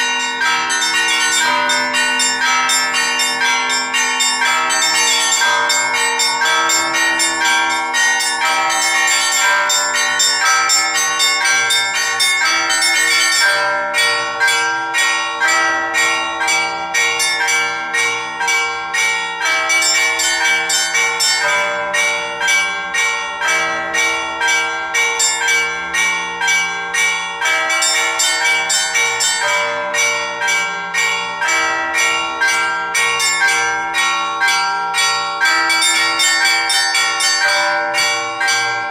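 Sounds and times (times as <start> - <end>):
deep church bells: 0.0 - 38.9
small church bells chiming: 0.0 - 38.9.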